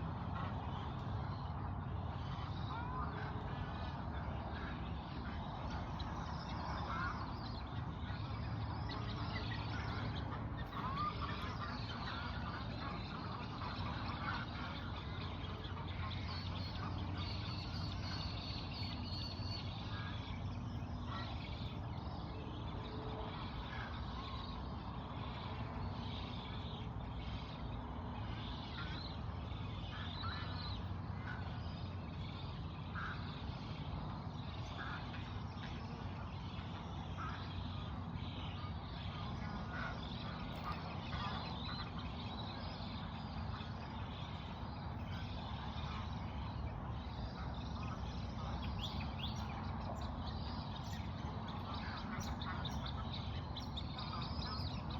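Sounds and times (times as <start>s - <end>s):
birds calling: 0.0s - 54.9s.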